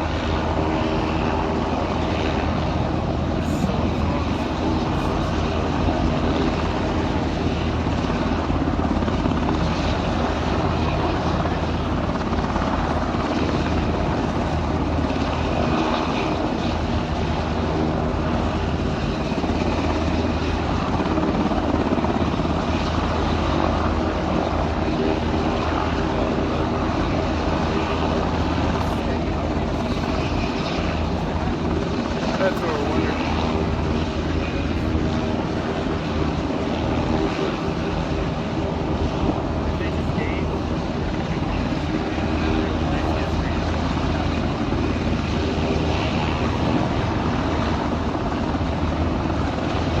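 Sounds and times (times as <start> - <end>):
aircraft engine drone: 0.0 - 50.0
constant low hum: 0.0 - 50.0.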